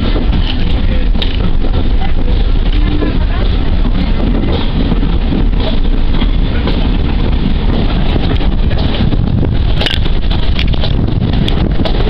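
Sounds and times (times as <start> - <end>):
train rumbling on rails: 0.0 - 12.0
wind buffeting microphone: 0.0 - 12.0.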